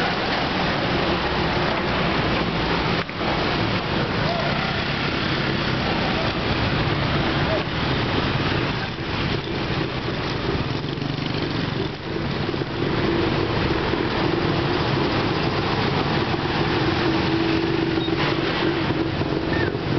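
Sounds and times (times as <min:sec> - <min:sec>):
bus and truck engines idling: 0:00.0 - 0:19.9
motorbike engines: 0:00.0 - 0:19.9.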